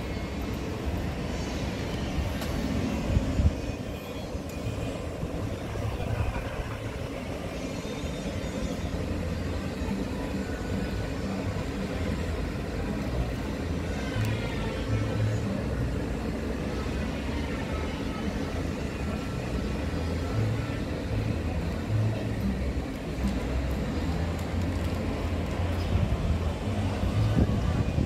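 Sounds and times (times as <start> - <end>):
low street rumble: 0.0 - 28.0.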